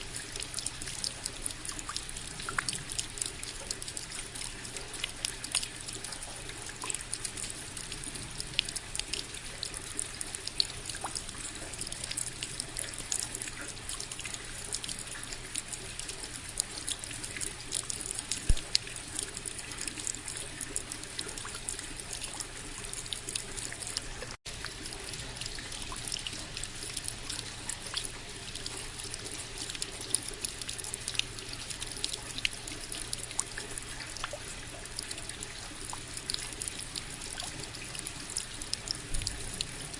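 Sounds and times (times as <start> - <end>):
raindrops ticking: 0.0 - 39.9
water trickling: 0.0 - 39.9.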